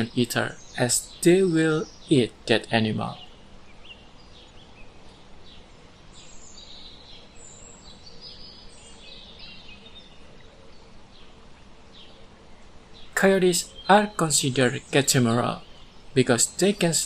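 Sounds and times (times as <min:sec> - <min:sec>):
birds chirping: 0:00.0 - 0:17.0
faint steady background hiss: 0:00.0 - 0:17.0.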